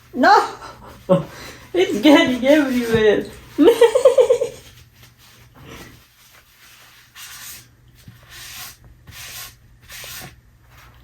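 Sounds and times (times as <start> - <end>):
soft rubbing on tabletop: 0.9 - 11.0.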